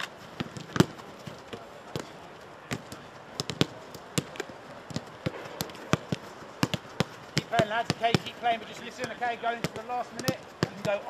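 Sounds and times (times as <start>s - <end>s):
footballs kicked thudding: 0.2s - 11.0s.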